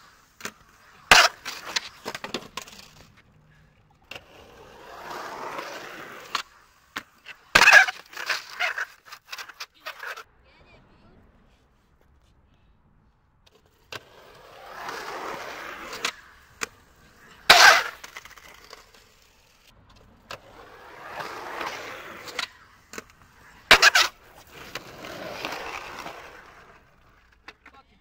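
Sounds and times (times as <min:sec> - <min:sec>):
rolling rumble: 0:00.0 - 0:12.1, 0:13.4 - 0:27.5.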